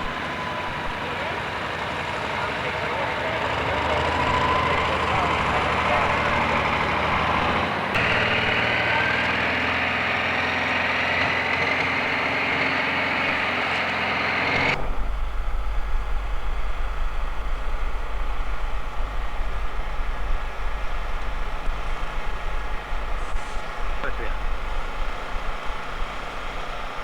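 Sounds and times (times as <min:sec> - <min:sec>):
engine with rising whine: 0:00.0 - 0:27.0.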